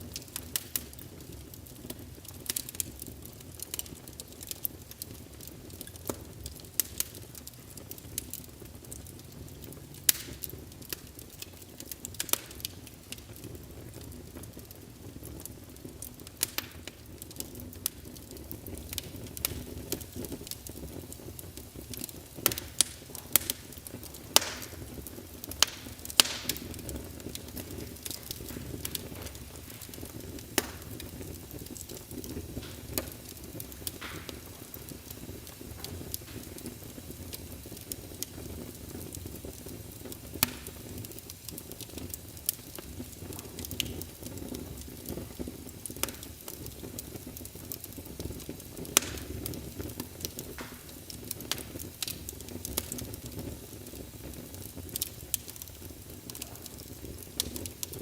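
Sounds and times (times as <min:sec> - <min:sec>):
logs crackling in fireplace: 0:00.0 - 0:58.0.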